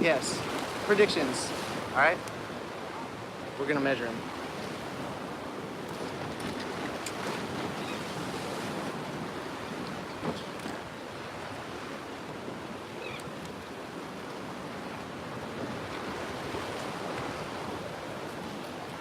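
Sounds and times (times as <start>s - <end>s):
waves and surf: 0.0s - 19.0s.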